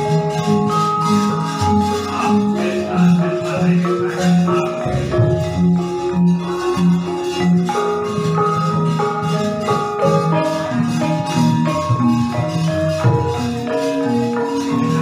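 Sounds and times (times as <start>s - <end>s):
gamelan metallophones ringing: 0.0s - 15.0s.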